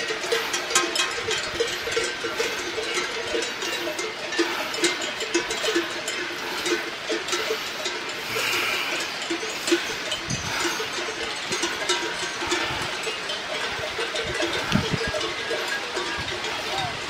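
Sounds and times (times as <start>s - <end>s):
cowbells clanking: 0.0s - 17.0s.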